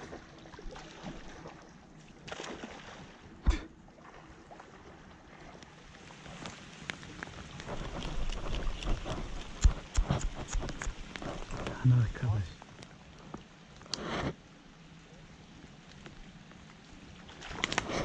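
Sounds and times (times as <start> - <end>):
river water running: 0.0 - 18.0.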